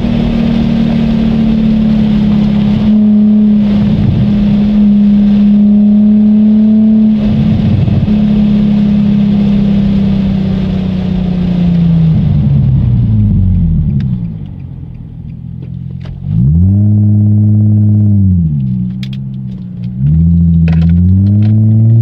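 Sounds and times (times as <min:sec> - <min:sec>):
car engine at speed: 0:00.0 - 0:22.0.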